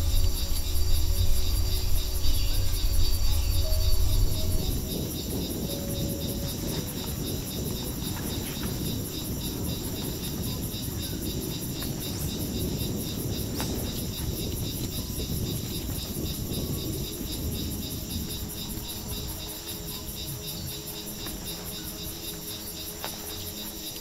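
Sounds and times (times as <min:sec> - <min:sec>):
crickets and insects chirping: 0:00.0 - 0:24.0
low rustling noise: 0:00.0 - 0:24.0.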